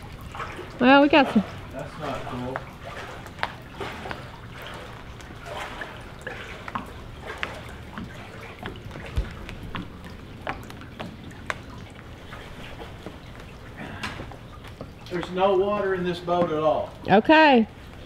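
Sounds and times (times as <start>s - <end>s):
small water splashes: 0.0s - 18.0s
water dripping and lapping: 0.0s - 18.0s.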